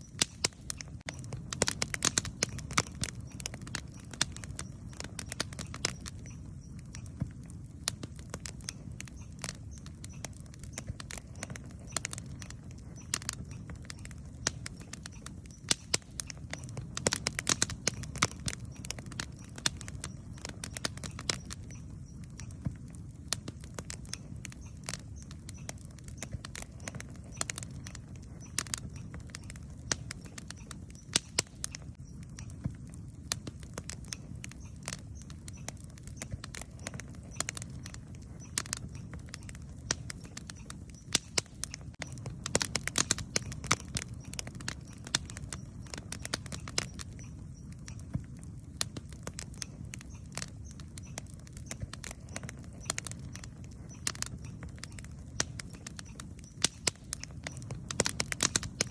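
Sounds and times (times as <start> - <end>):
campfire low rumble: 0.0 - 58.9
fire crackles and pops: 0.0 - 58.9.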